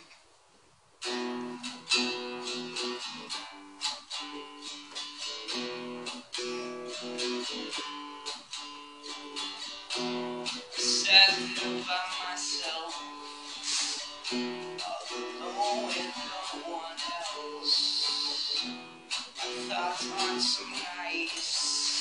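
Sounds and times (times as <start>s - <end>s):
acoustic guitar chords: 1.0s - 22.0s.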